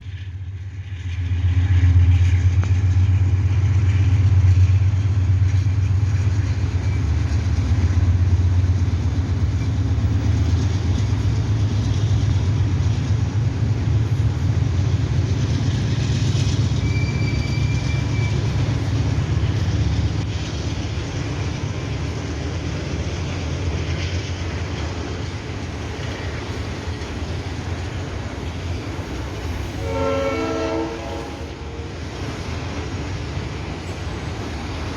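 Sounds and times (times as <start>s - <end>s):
diesel locomotives engine rumble: 0.0s - 34.9s.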